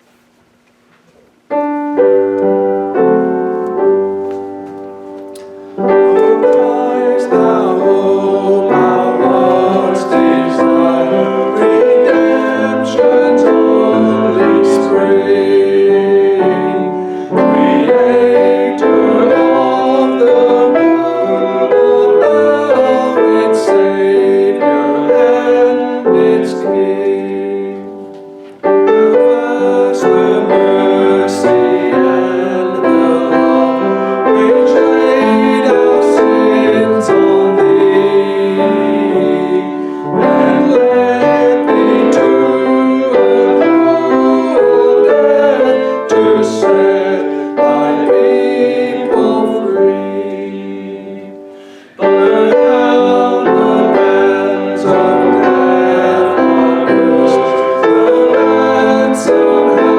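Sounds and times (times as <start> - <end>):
piano accompaniment: 1.4 - 59.9
congregation singing a hymn: 1.6 - 59.9.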